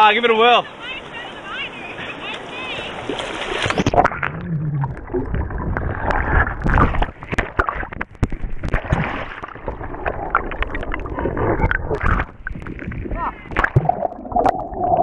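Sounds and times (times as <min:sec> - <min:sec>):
water splashing and gurgling: 0:00.7 - 0:15.0.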